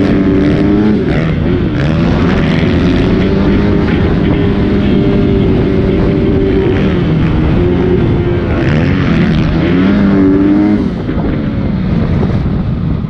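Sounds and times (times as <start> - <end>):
dirt bike engine revving: 0.0 - 12.6
wind on microphone: 0.0 - 13.0.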